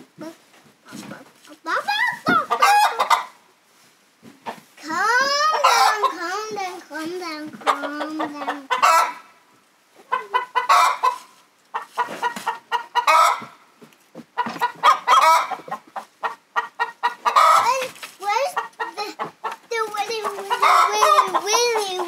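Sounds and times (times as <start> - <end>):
hens clucking and squawking: 1.9 - 3.6, 4.4 - 22.0.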